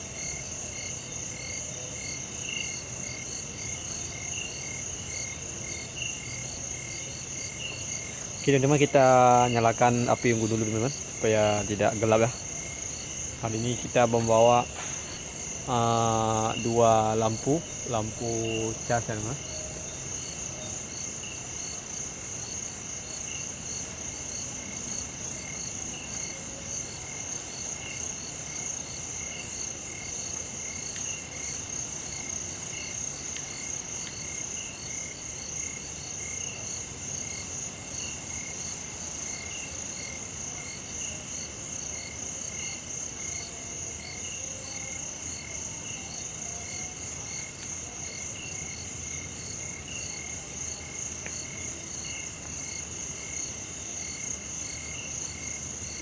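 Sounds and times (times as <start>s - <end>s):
high-pitched insect trill: 0.0s - 56.0s
insect chirping: 0.0s - 56.0s.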